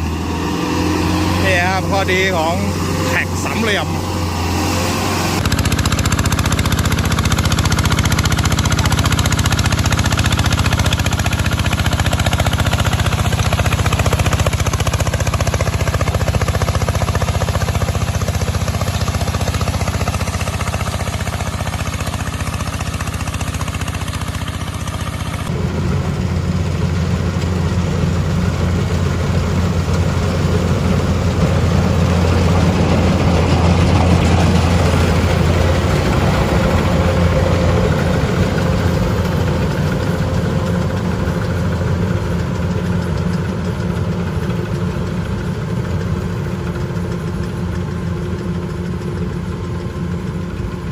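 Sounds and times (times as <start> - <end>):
deeper louder engine: 0.0 - 50.9
tractor engine running: 0.0 - 50.9.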